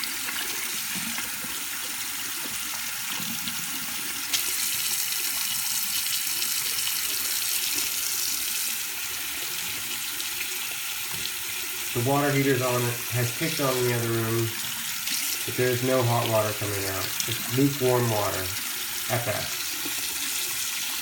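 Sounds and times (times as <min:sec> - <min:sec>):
water running from a tap: 0:00.0 - 0:21.0.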